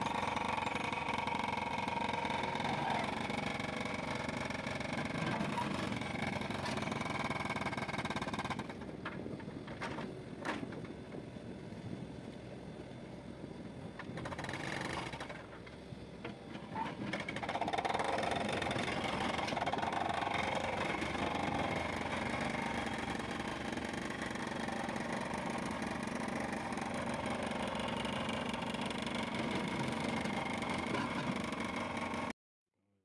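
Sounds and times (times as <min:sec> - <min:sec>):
diesel engines running under load: 0:00.0 - 0:32.3.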